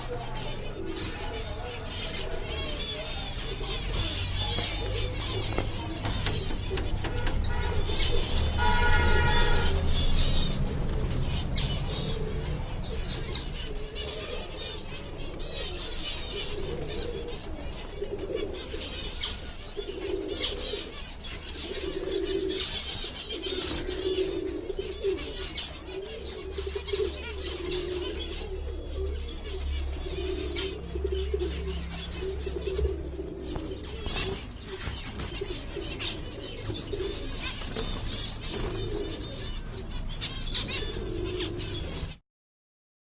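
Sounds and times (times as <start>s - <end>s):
dove cooing: 0.0s - 42.2s.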